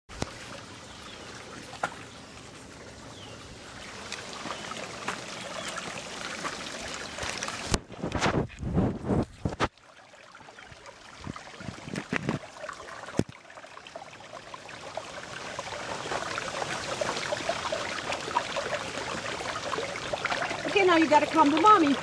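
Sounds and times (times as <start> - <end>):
water trickling and splashing: 0.1 - 22.0.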